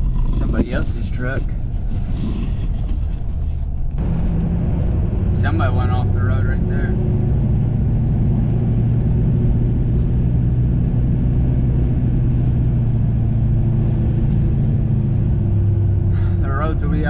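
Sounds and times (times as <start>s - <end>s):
diesel engine humming in cab: 0.0s - 17.0s
road noise: 0.0s - 17.0s.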